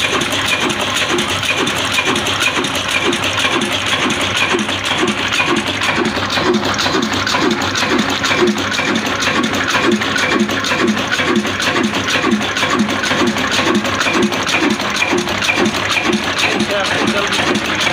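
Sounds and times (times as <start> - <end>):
fast ticking clatter: 0.0 - 17.9
slow diesel engine beating: 0.0 - 17.9.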